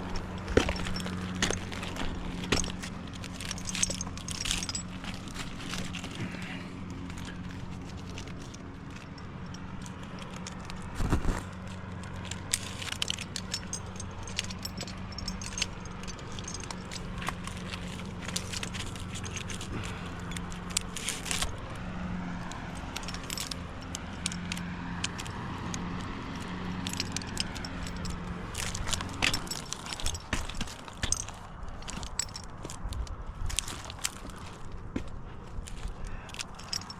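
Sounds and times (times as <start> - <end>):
metallic clicks and jingling: 0.0 - 6.2, 6.8 - 21.8, 22.4 - 34.8, 35.5 - 36.9
engine running at low speed: 0.0 - 36.9.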